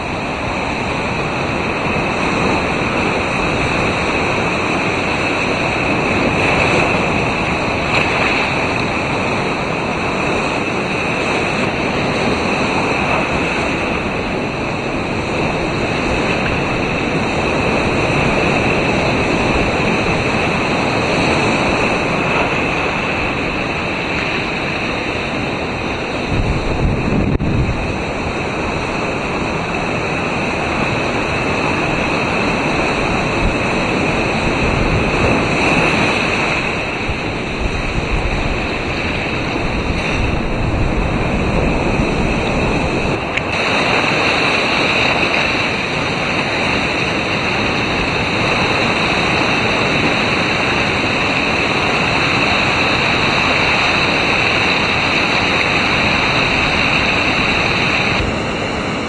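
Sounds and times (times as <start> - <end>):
churning surf: 0.0 - 59.0
wind buffeting microphone: 0.0 - 59.0.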